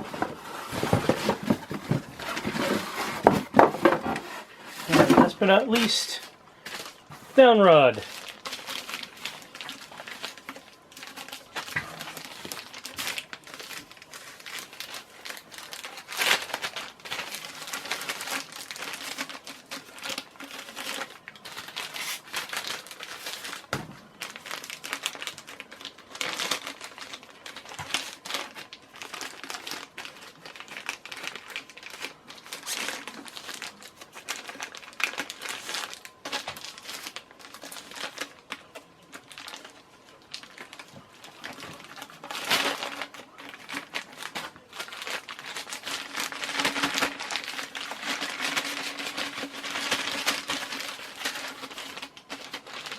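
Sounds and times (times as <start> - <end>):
packing paper crinkling: 0.0 - 52.9.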